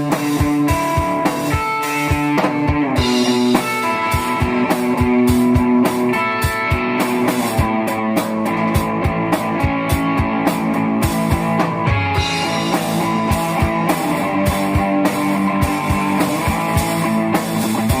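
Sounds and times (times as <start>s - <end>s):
rock guitar: 0.0s - 18.0s
steady drum beat: 0.0s - 18.0s.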